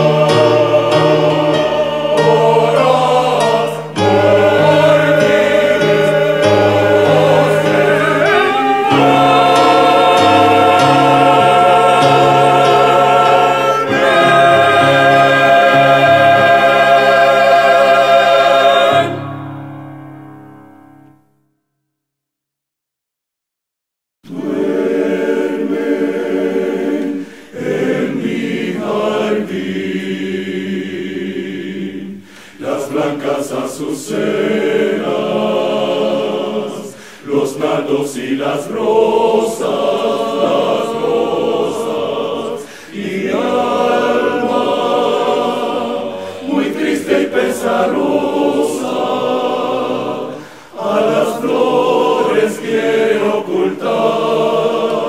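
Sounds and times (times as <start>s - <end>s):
choir singing sustained chords: 0.0s - 20.7s, 24.3s - 55.0s.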